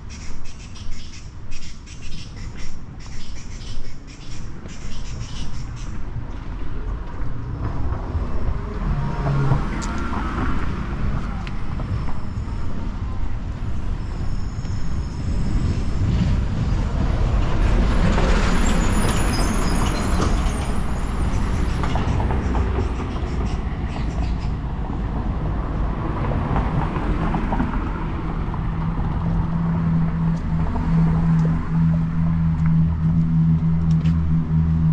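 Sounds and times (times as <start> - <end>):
large vehicle engine rumble: 4.3 - 34.9.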